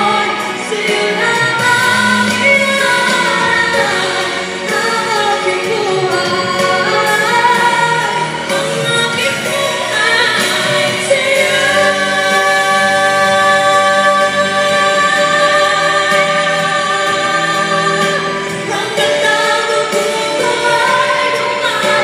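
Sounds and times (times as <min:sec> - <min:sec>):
women singing pop duet: 0:00.0 - 0:22.0.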